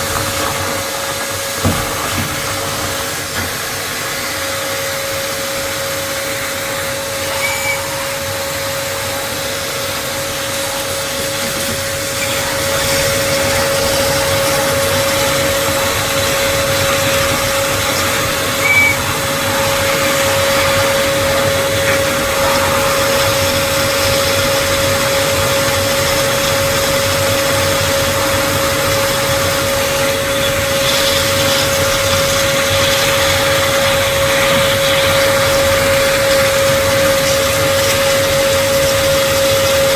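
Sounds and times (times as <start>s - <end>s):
wet vacuum whining: 0.0s - 39.9s.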